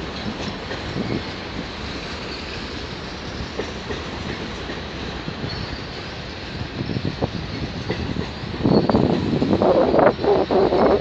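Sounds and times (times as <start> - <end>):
rail clacks: 0.0 - 11.0
train wheels rumbling on rails: 0.0 - 11.0.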